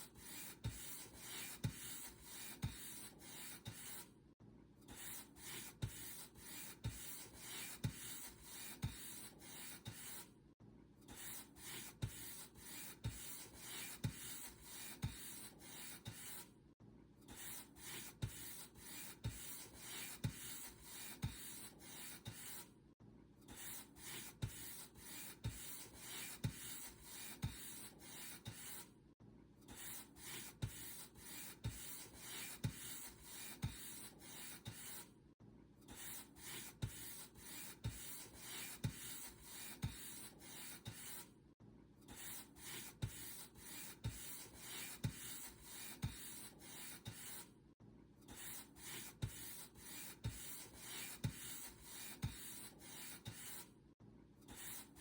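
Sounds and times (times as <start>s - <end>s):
paintbrush brushing on surface: 0.2s - 4.0s, 5.0s - 10.2s, 11.2s - 16.5s, 17.4s - 22.7s, 23.6s - 28.8s, 29.8s - 35.0s, 36.0s - 41.3s, 42.2s - 47.5s, 48.4s - 53.7s.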